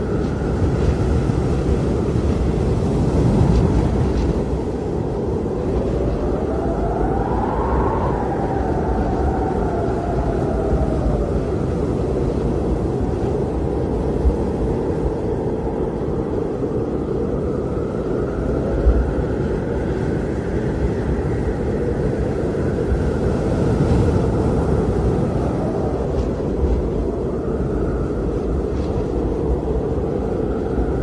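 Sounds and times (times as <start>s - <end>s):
blizzard wind howling: 0.0s - 31.0s.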